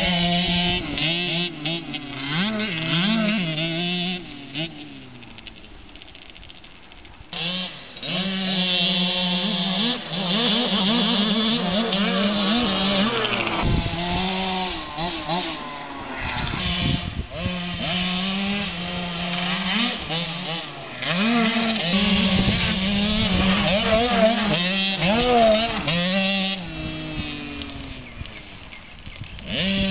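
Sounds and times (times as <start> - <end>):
two-stroke engines revving high: 0.0 - 29.9.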